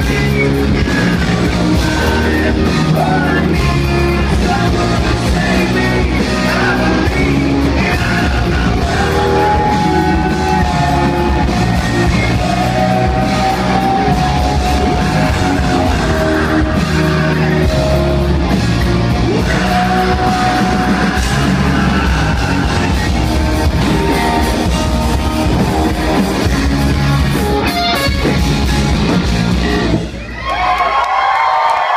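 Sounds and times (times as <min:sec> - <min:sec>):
man singing long notes: 0:00.0 - 0:18.5, 0:19.1 - 0:26.2
rock band playing: 0:00.0 - 0:30.8.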